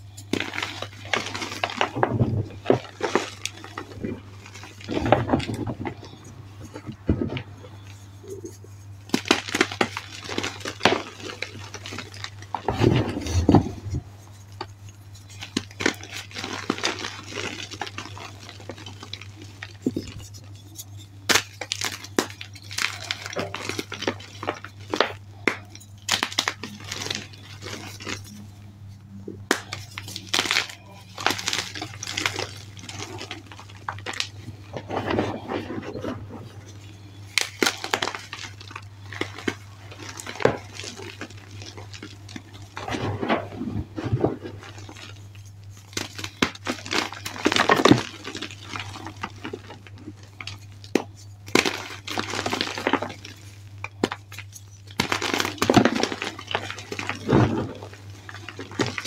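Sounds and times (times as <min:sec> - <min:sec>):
chalk crunching and crackling: 0:00.0 - 0:59.0
steady low hum: 0:00.0 - 0:59.0.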